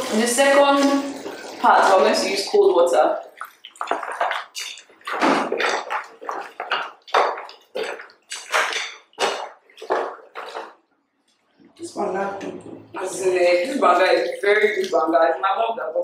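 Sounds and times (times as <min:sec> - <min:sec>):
hands squelching pulp in water: 0:00.0 - 0:11.8, 0:13.4 - 0:15.6.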